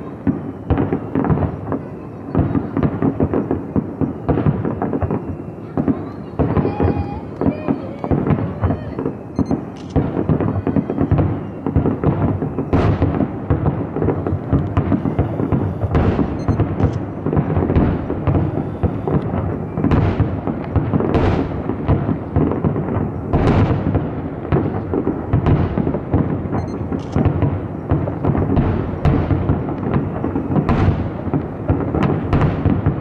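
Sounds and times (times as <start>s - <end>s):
fireworks booming and crackling: 0.0s - 33.0s.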